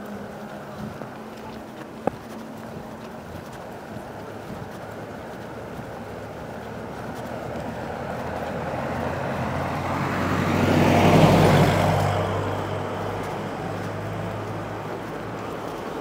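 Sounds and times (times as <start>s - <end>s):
vehicle passing on street: 0.0s - 16.0s.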